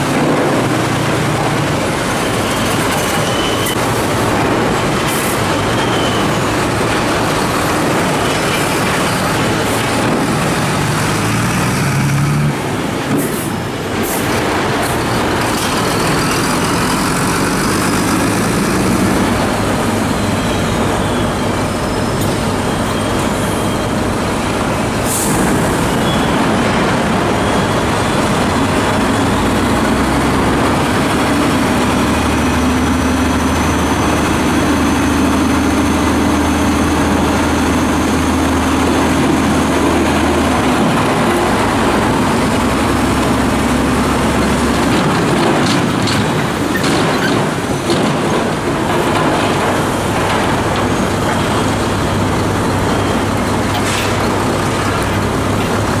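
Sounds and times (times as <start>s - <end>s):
diesel truck engines running: 0.0s - 56.0s.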